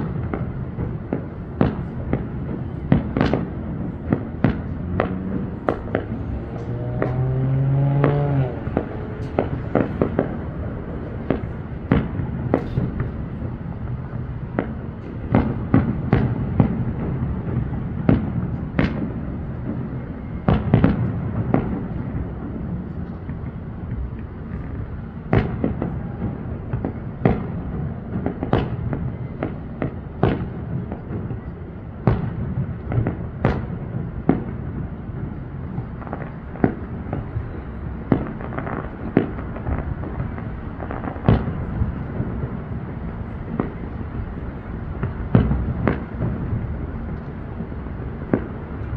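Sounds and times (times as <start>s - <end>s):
fireworks bangs: 0.0s - 48.9s
low rumble of fireworks bursts: 0.0s - 48.9s.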